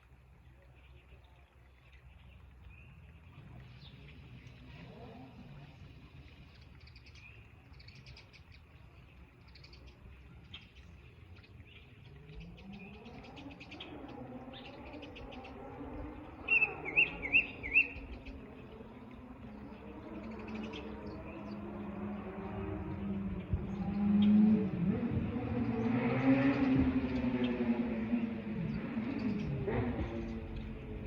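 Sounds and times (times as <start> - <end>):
songbirds chirping: 0.0 - 31.0.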